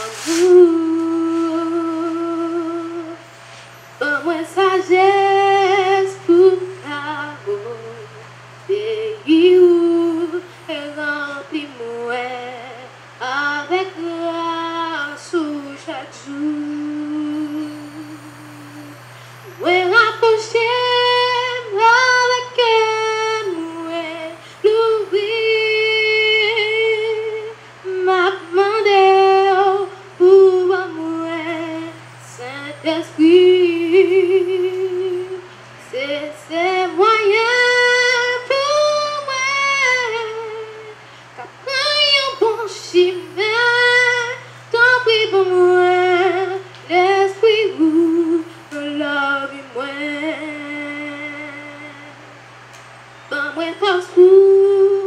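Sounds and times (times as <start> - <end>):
girl singing into microphone: 0.0 - 3.2, 4.0 - 52.2, 53.3 - 55.0.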